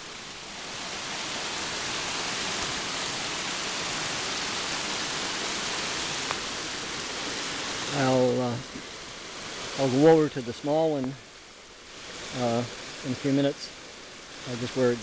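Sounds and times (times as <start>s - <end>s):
brook water rushing: 0.0s - 15.0s.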